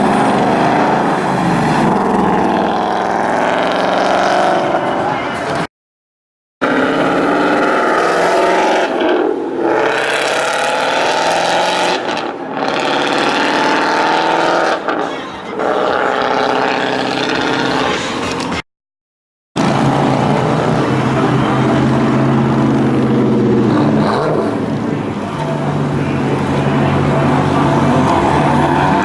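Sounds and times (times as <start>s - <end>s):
car engine revving: 0.0s - 5.7s, 6.6s - 18.6s, 19.6s - 29.0s.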